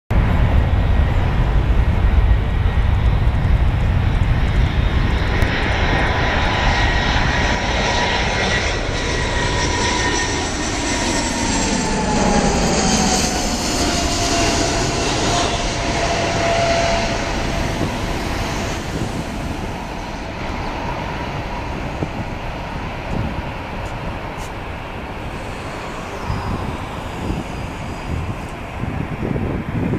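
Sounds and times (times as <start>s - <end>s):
jet airliner roaring overhead: 0.1s - 29.9s.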